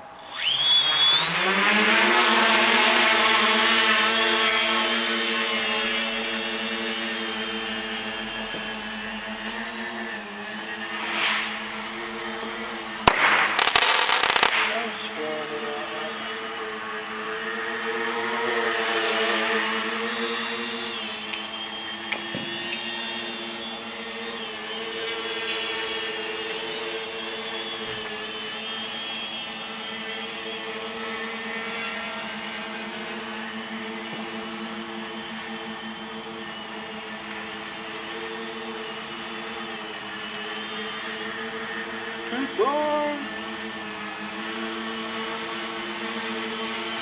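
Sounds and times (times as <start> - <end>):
drone propellers buzzing: 0.0 - 47.0.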